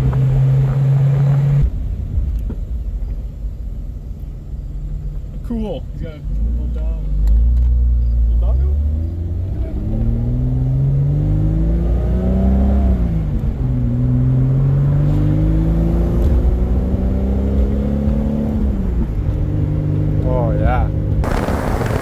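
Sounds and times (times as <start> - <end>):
car engine accelerating through gears: 0.0 - 3.2, 6.0 - 22.0.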